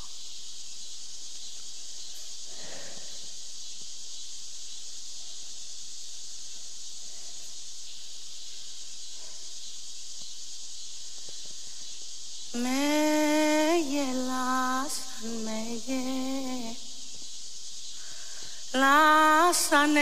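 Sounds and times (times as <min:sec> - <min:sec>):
steady high-pitched hiss: 0:00.0 - 0:20.0.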